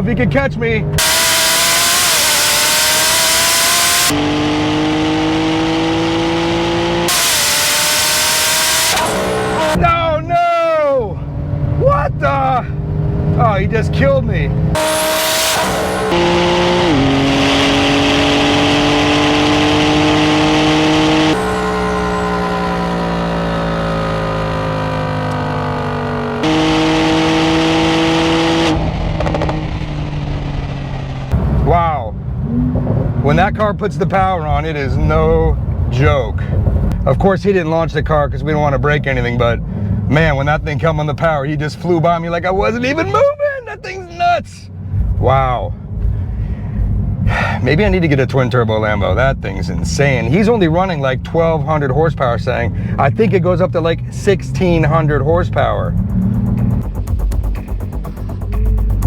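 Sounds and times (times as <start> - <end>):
sports car engine accelerating: 0.8 - 10.1, 11.2 - 37.2, 38.6 - 59.0.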